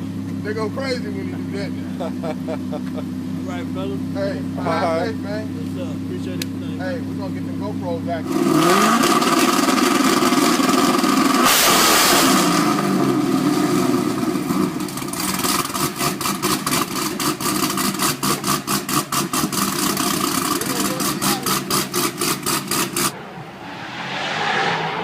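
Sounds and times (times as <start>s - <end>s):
car engine pulsing idle: 0.0s - 23.1s.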